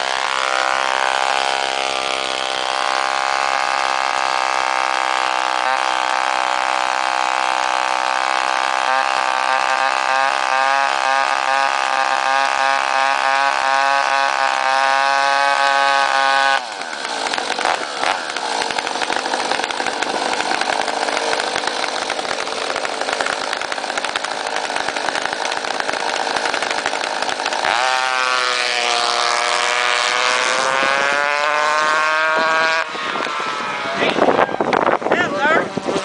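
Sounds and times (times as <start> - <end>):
small engine buzzing: 0.0 - 36.0.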